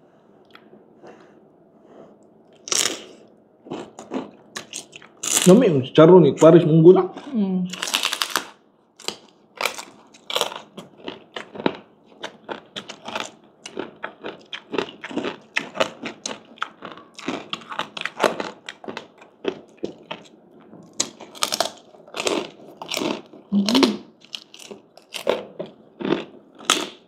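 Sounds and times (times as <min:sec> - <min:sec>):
crunchy pork skin being chewed: 0:02.5 - 0:05.6, 0:07.7 - 0:27.0.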